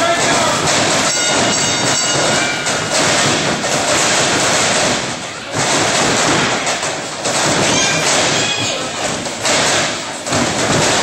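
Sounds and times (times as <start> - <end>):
crowd shouting and cheering: 0.0 - 11.0.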